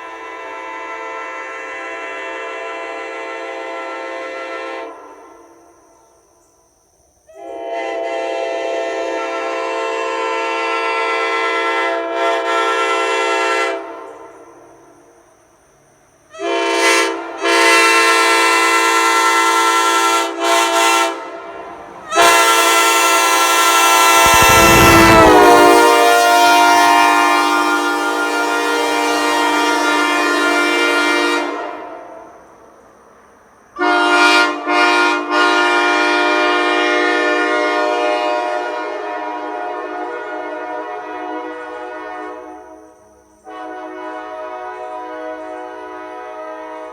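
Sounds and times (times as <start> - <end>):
locomotive air horn blasts: 0.0 - 5.1, 7.4 - 13.9, 16.4 - 21.5, 22.1 - 32.0, 33.8 - 42.6, 43.5 - 46.9.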